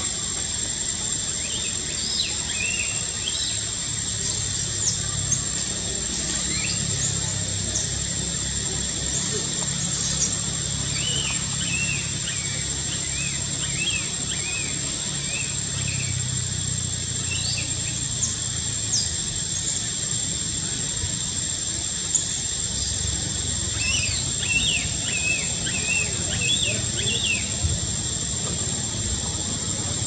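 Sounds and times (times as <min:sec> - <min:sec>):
high-pitched insect drone: 0:00.0 - 0:30.0
low steady rumble: 0:00.0 - 0:30.0.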